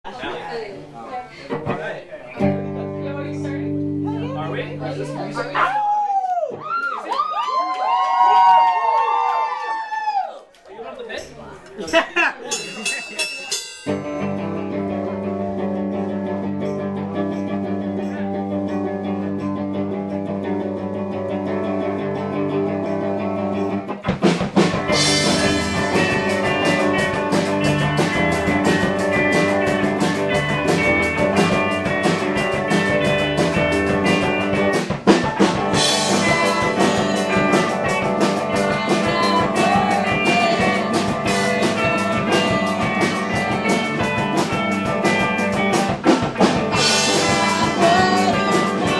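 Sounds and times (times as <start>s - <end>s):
live rock band playing: 1.5s - 6.0s, 12.4s - 48.9s
drum kit: 1.5s - 6.6s, 12.4s - 48.9s
electric guitar: 1.5s - 6.8s, 13.9s - 48.9s.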